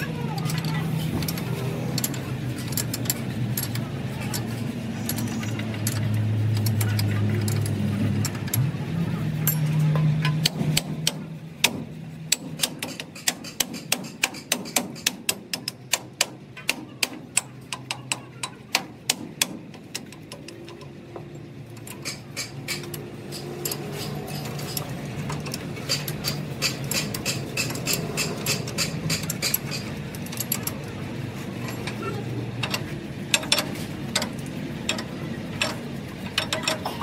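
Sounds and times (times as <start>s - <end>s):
wrench clicking on nut: 0.5s - 8.6s, 9.4s - 21.0s, 21.7s - 30.9s, 31.6s - 37.0s.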